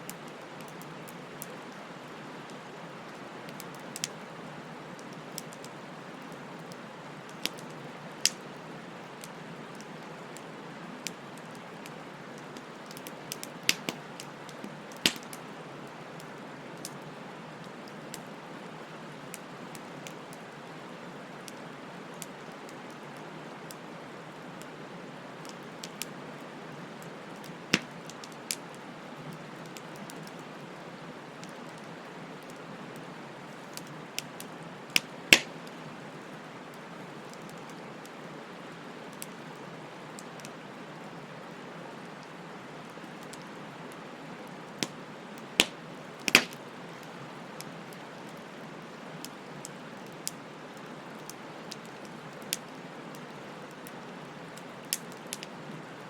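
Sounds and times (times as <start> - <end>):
fire crackles and pops: 0.0 - 24.8, 25.4 - 56.0
bonfire hissing: 0.1 - 55.8.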